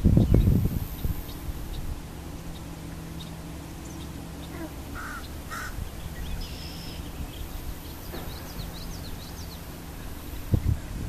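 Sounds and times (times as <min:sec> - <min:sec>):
low background hum: 0:00.0 - 0:11.0
thin high bird chirps: 0:01.2 - 0:10.8
harsh bird calls: 0:01.2 - 0:11.0.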